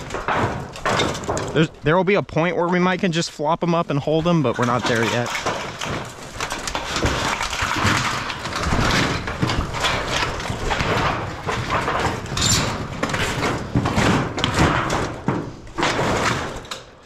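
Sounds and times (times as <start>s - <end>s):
tin roofing sheets rattling: 0.0s - 17.0s.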